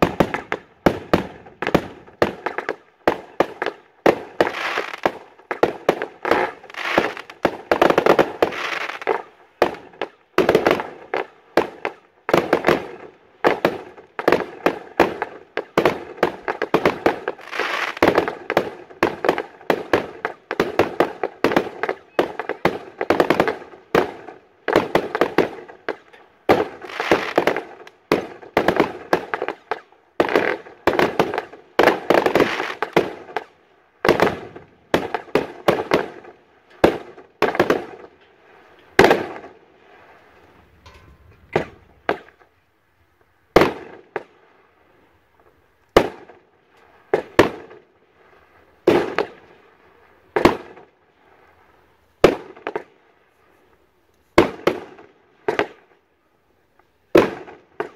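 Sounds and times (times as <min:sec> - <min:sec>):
fireworks bangs: 0:00.0 - 0:42.6, 0:43.2 - 0:44.4, 0:45.4 - 0:50.9.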